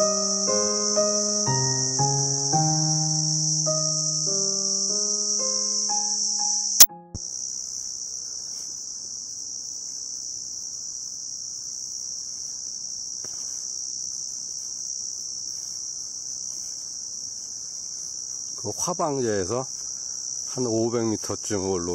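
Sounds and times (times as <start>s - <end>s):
insects singing: 0.0s - 21.9s.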